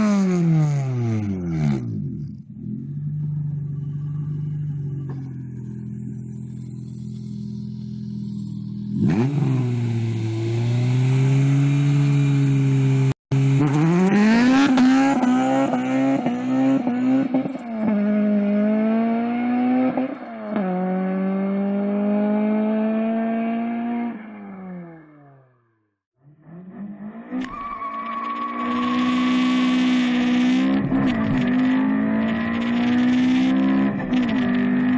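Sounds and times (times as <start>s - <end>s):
car engine revving and accelerating: 0.0s - 25.6s, 26.3s - 34.9s.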